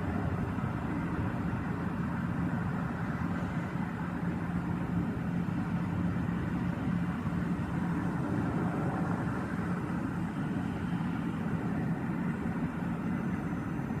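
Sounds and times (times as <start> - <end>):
faint hum: 0.0 - 14.0
low mechanical drone: 0.0 - 14.0.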